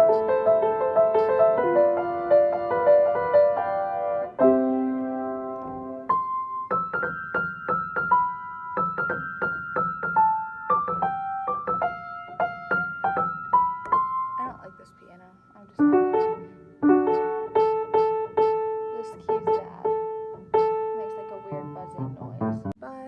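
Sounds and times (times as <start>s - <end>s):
piano playing: 0.0s - 22.8s.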